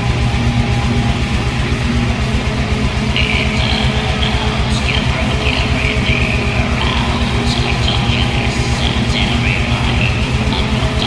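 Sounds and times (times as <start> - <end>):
distorted electric guitars: 0.0 - 11.0.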